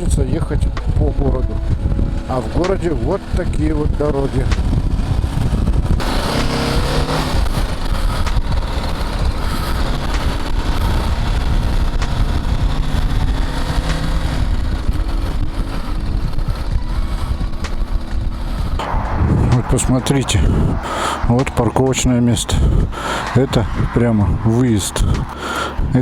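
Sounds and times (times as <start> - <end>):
motorcycle engine running: 0.0 - 26.0
road noise rumble: 0.0 - 26.0.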